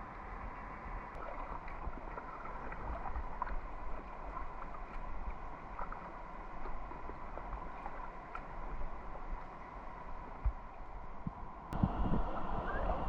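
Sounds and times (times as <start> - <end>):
flowing river water: 0.0 - 13.0
paddle splashes and drips: 0.1 - 11.4.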